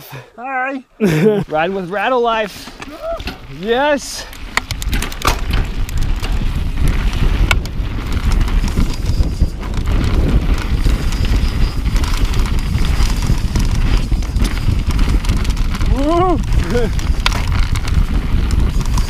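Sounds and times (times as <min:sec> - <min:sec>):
bike rattling on rough trail: 0:01.1 - 0:19.0
wind buffeting microphone: 0:02.3 - 0:19.0.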